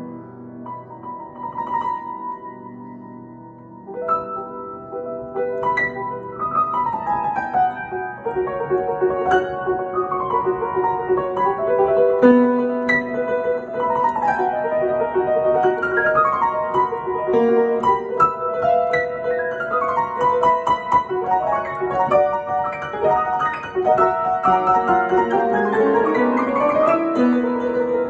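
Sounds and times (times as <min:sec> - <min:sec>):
fast piano improvisation: 0:00.0 - 0:28.0.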